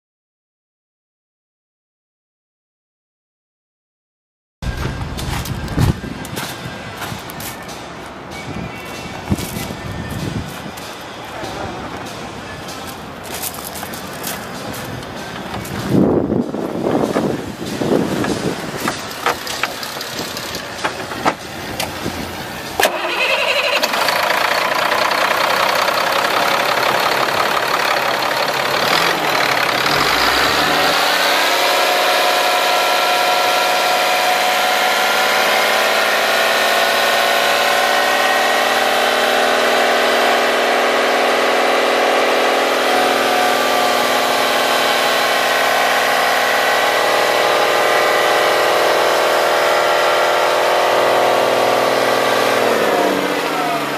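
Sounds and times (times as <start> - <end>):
diesel engine starting and idling: 4.6 - 53.9.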